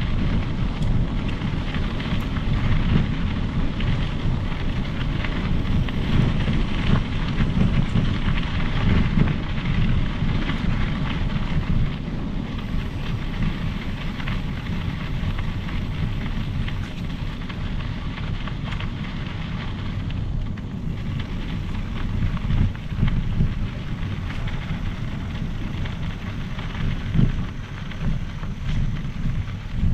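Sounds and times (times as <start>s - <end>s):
bike tyres rumbling on trail: 0.0s - 29.9s
small crackles and rattles: 0.0s - 29.9s
wind buffeting microphone: 0.0s - 29.9s.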